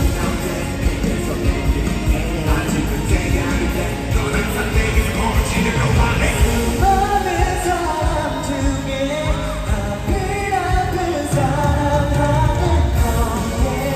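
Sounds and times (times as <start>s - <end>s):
pop song with singing: 0.0s - 13.9s.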